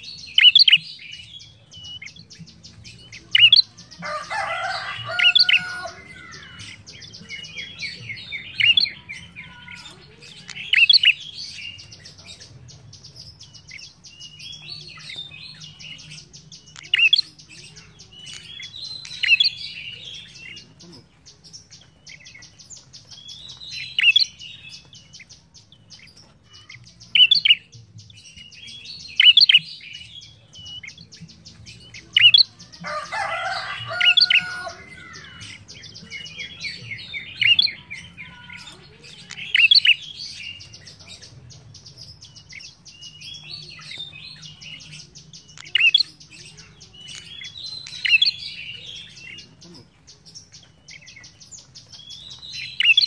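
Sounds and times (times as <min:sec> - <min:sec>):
bird singing sharp high chirps: 0:00.0 - 0:53.0.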